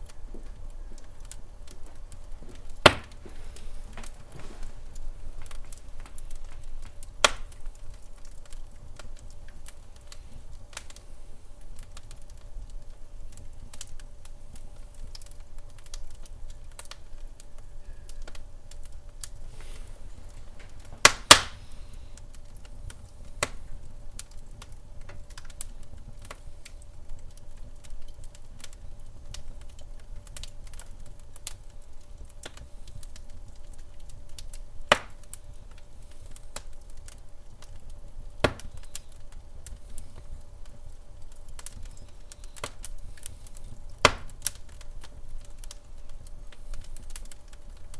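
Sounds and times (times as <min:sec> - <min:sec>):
sharp fire pops: 0:00.0 - 0:17.0, 0:18.1 - 0:47.9
fire crackling: 0:00.0 - 0:47.9
low fire rumble: 0:00.0 - 0:47.9.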